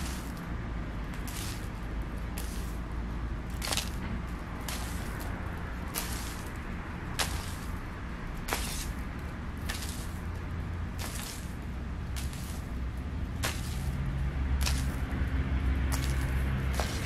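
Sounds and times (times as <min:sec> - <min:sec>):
cat scratching rustles: 0:00.0 - 0:17.0.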